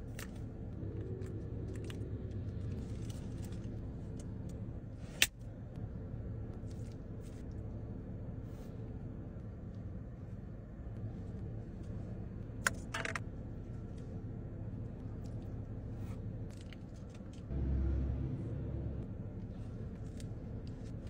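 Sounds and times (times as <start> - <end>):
car engine idling: 0.0 - 21.0
low rumble: 0.0 - 21.0.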